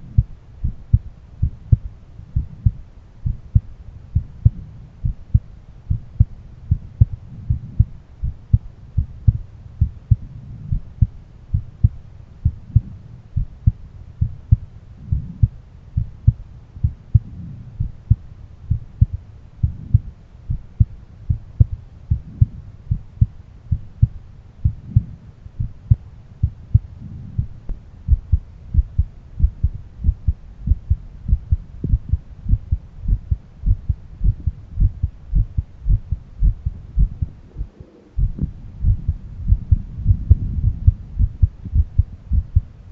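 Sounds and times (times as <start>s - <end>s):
heartbeat through stethoscope: 0.0s - 42.9s.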